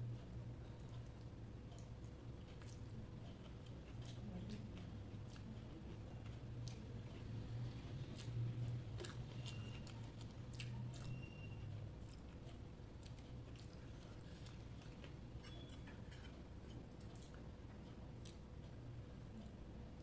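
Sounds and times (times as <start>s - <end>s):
low steady hum: 0.0s - 20.0s
person chewing food: 0.2s - 19.6s.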